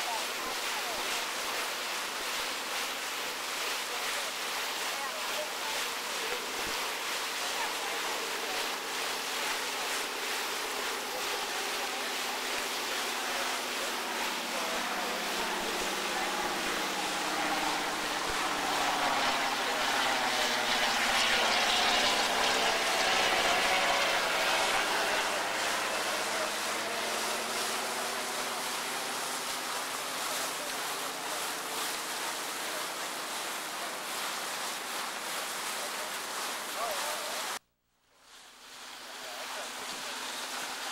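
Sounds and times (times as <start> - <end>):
wind and water rushing: 0.0 - 37.6, 38.3 - 40.9
low engine hum: 2.2 - 37.6.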